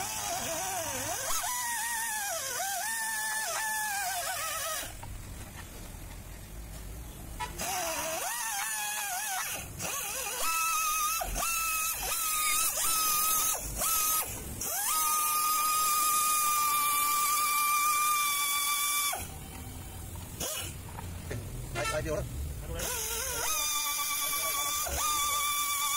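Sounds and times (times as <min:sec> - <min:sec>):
die grinder whining: 0:00.0 - 0:05.1, 0:07.5 - 0:21.0, 0:21.7 - 0:25.9.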